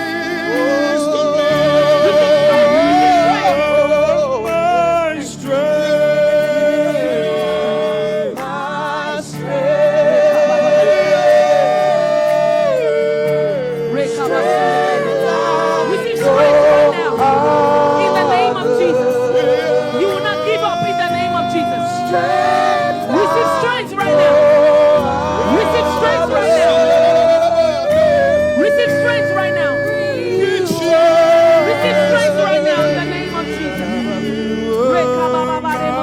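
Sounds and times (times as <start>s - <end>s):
person singing with vibrato: 0.0s - 36.0s
sustained accompaniment: 0.0s - 36.0s.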